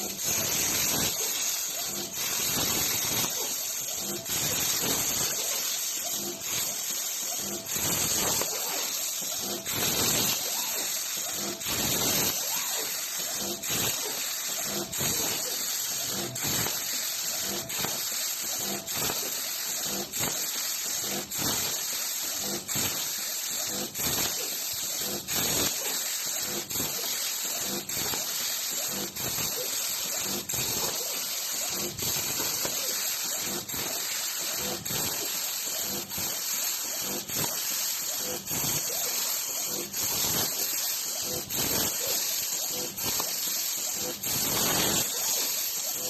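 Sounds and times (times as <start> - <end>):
plasma torch cutting hiss: 0.0 - 46.0.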